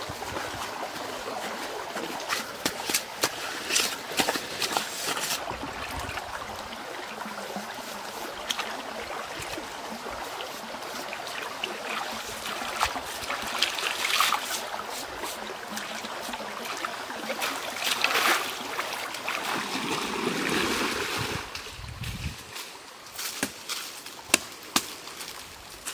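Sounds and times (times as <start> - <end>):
stream water running: 0.0 - 25.9.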